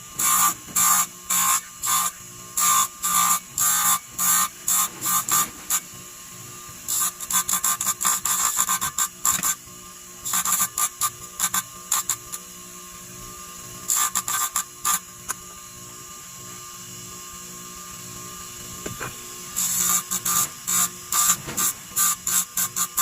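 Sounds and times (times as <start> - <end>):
power tool whining: 0.0 - 23.0.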